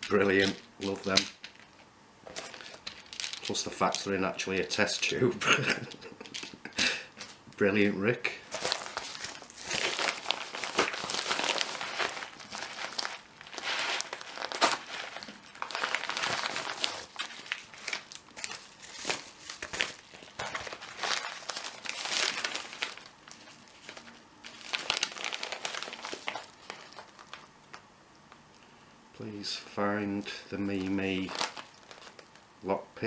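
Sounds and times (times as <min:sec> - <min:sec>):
packaging crumpling and rustling: 0:00.0 - 0:06.6, 0:08.4 - 0:27.8, 0:30.6 - 0:32.4.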